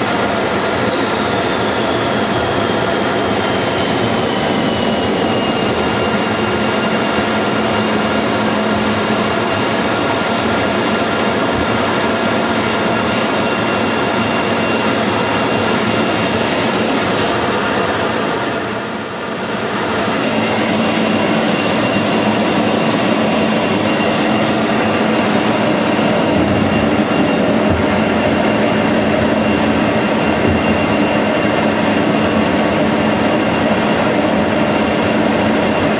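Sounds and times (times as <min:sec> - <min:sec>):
jet engine whine: 0:00.0 - 0:35.9
loud rushing noise: 0:00.0 - 0:35.9.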